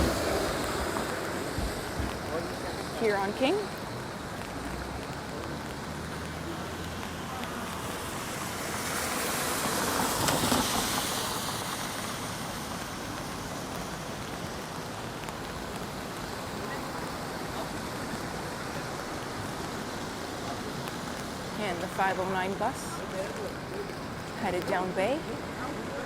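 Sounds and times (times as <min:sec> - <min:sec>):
rain hiss: 0:00.0 - 0:26.0
vehicle tyres hissing on wet road: 0:00.0 - 0:26.0
wet-road traffic: 0:00.0 - 0:26.0.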